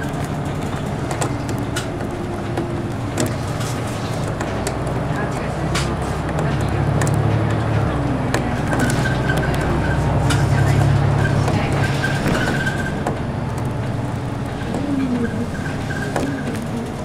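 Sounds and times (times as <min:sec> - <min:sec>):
bus engine running: 0:00.0 - 0:17.0
clicks and rattles: 0:00.0 - 0:17.0.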